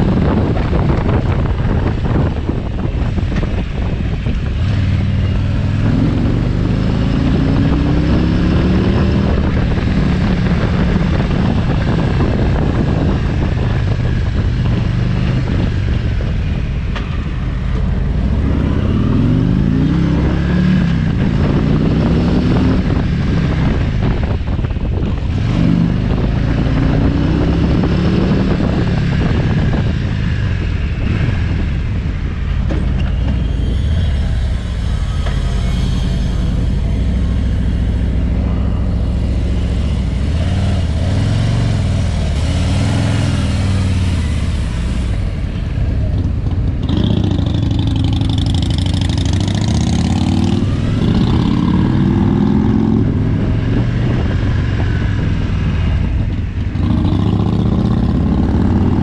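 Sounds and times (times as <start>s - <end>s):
motorcycle engine accelerating: 0.0s - 59.0s
wind on microphone: 0.0s - 59.0s.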